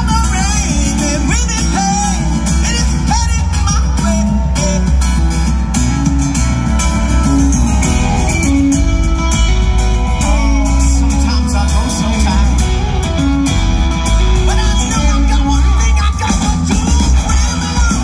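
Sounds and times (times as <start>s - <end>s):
drums: 0.0s - 18.0s
electric guitar: 0.0s - 18.0s
heavy bass: 0.0s - 18.0s.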